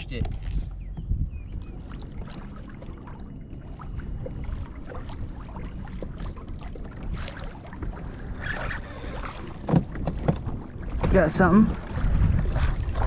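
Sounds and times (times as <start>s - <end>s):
water lapping against kayak hull: 0.0s - 13.0s
wind rumble on microphone: 0.0s - 13.0s.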